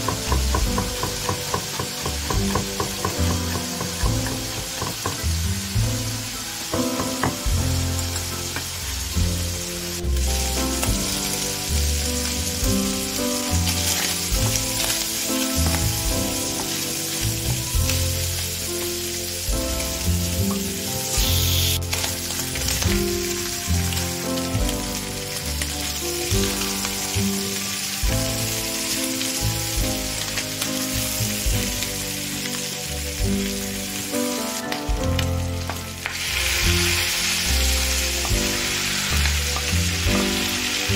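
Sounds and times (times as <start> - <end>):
background music: 0.0 - 40.9
bacon sizzling in a frying pan: 0.0 - 40.9.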